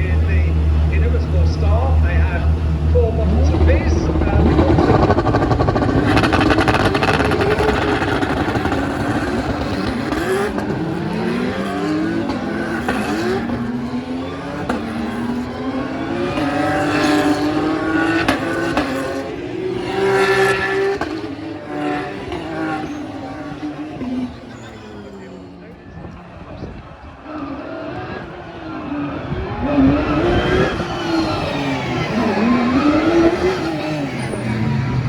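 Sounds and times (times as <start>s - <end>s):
racing cars revving past: 0.0s - 35.0s.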